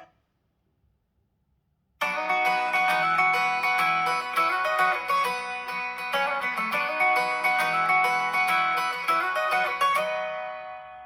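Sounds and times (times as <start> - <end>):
plucked guitar-like ringtone: 2.0 - 11.0.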